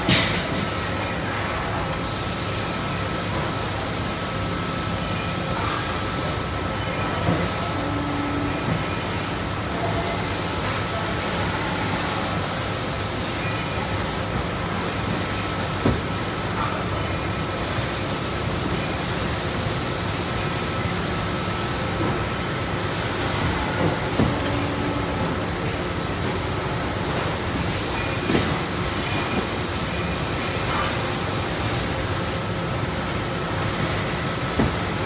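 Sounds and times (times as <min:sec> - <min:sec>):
factory machinery noise: 0:00.0 - 0:35.0.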